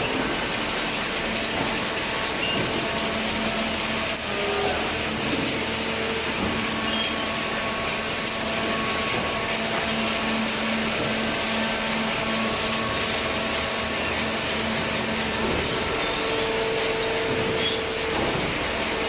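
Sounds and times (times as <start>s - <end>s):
baler machinery humming: 0.0s - 19.0s.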